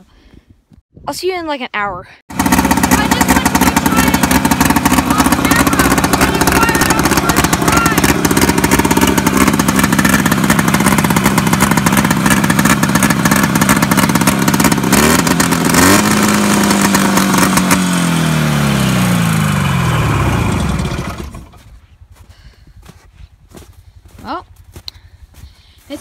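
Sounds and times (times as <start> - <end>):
snowmobile engine running: 2.3 - 26.0.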